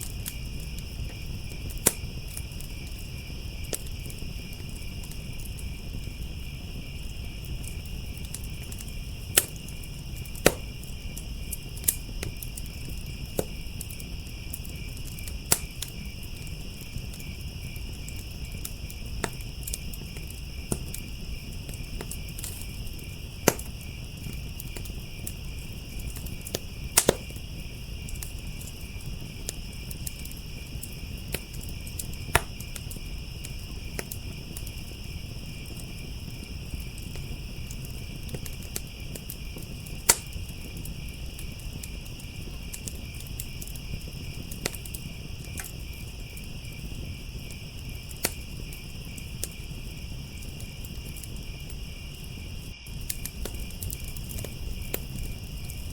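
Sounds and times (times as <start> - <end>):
crackling fire: 0.0 - 55.9
crickets chirping: 0.0 - 55.9
sharp pops from fire: 0.0 - 55.9.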